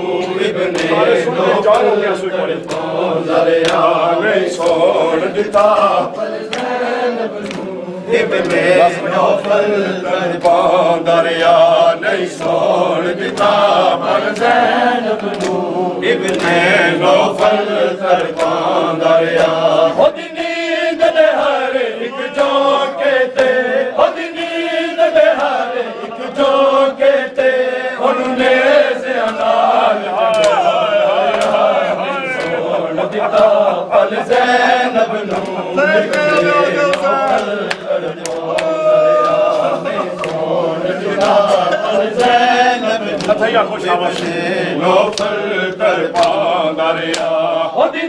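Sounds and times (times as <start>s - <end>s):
men chanting in unison: 0.0s - 48.0s
hands slapping chests: 0.1s - 19.7s, 23.3s - 23.6s, 27.3s - 34.5s, 35.2s - 47.4s.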